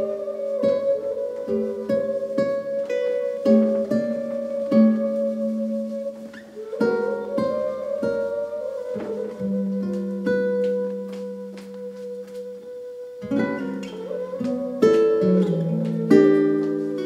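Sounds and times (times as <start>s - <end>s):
acoustic guitar plucking: 0.0s - 17.0s
recorder long notes: 0.0s - 17.0s.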